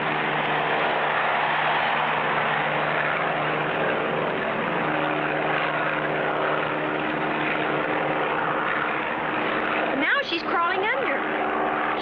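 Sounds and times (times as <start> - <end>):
propeller airplane engine in flight: 0.0 - 12.0.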